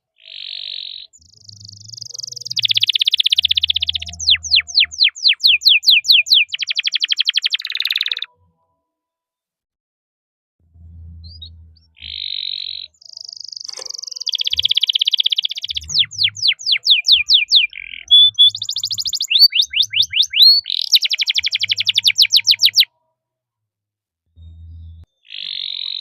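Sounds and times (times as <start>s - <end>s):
canary singing: 0.2s - 8.3s, 11.2s - 22.9s, 24.4s - 26.0s.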